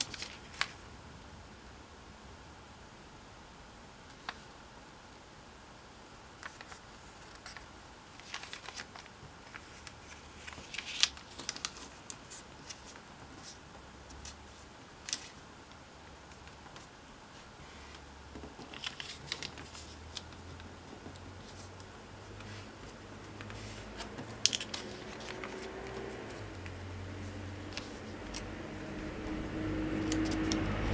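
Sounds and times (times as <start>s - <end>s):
paper crackling as it is folded: 0.0s - 0.8s, 6.4s - 30.9s.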